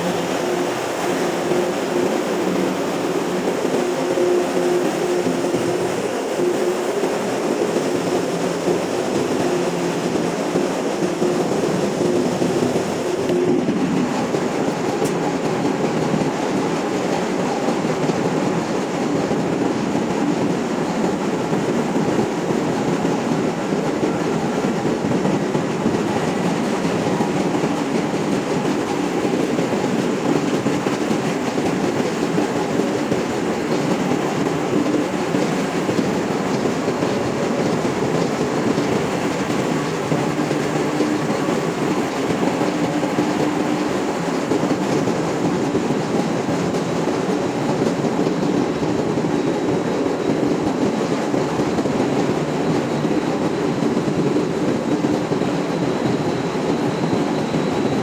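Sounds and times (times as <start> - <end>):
engine-room machinery running: 0.0 - 58.0.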